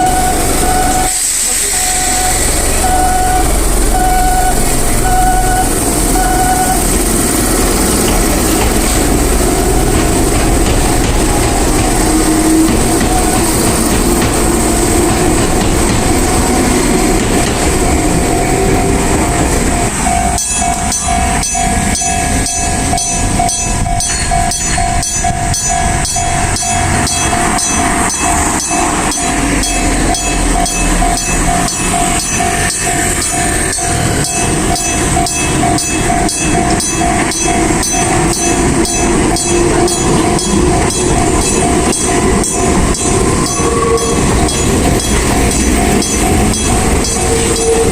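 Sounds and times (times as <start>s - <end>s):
crossing warning bell ringing: 0.0s - 47.9s
train running: 0.0s - 47.9s.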